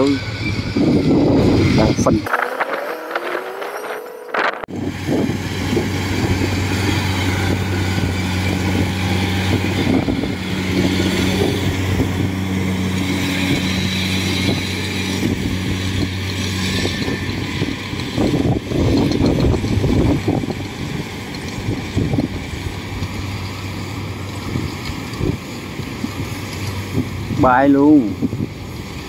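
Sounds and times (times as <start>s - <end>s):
diesel engine hum: 0.0s - 29.0s
threshing rushing noise: 0.0s - 29.0s.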